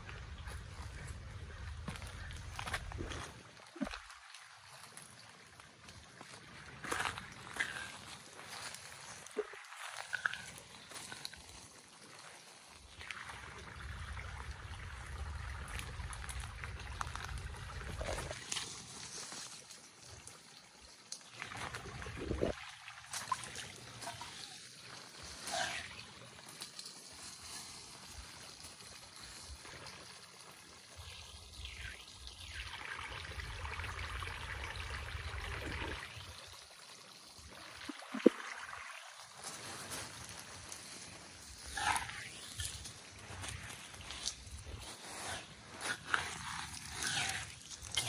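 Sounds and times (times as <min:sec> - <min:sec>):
creek trickling over stones: 0:00.0 - 0:48.0.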